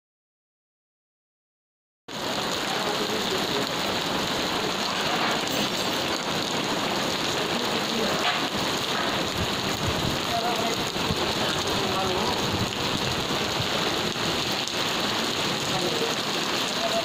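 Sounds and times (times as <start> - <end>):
hailstones and rain on a road: 2.1 - 17.0.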